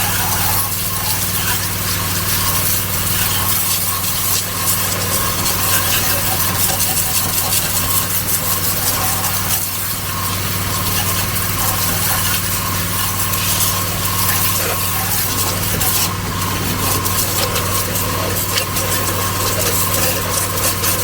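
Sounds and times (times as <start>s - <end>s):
pressure washer motor humming: 0.0s - 21.0s
water jet hissing: 0.0s - 21.0s.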